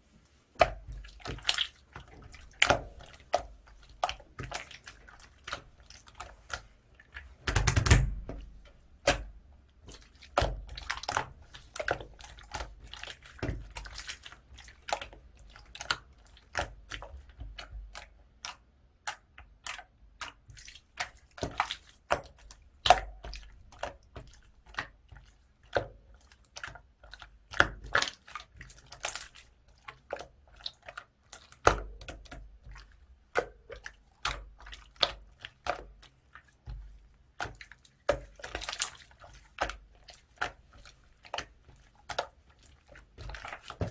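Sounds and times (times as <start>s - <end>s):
slime squelch: 0.0s - 43.9s.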